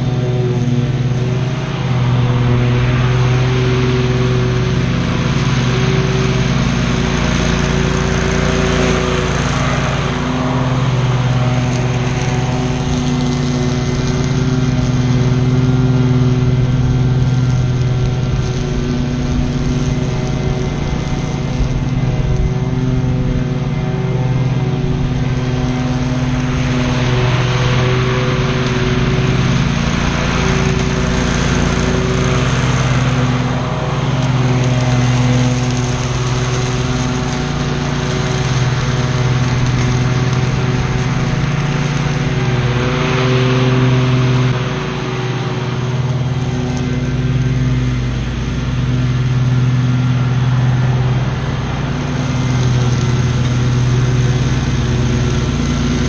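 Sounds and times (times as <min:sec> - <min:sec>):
grass cutting hiss: 0:00.0 - 0:56.0
lawn mower engine running: 0:00.0 - 0:56.0.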